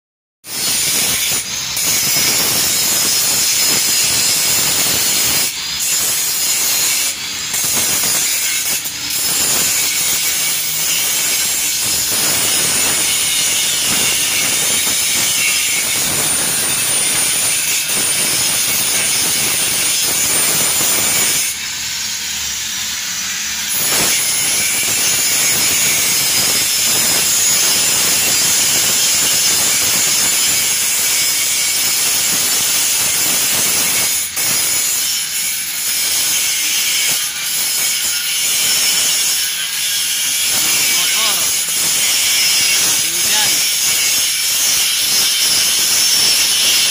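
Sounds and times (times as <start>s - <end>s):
angle grinder grinding steel: 0.5s - 46.9s.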